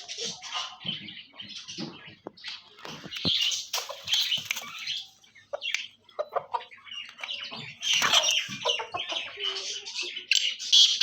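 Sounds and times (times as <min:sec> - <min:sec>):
cage birds chirping: 0:00.0 - 0:11.0
chickens clucking: 0:00.0 - 0:11.0.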